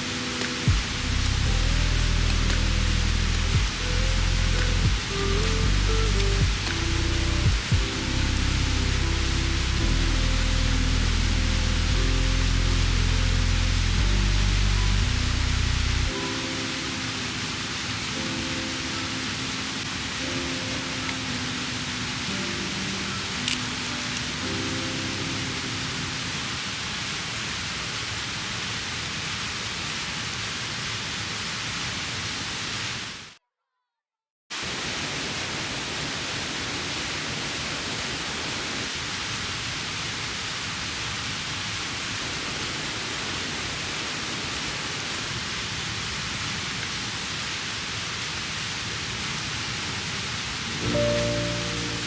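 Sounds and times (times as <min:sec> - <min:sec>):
mountain stream rushing: 0:00.0 - 0:33.3, 0:34.5 - 0:52.0.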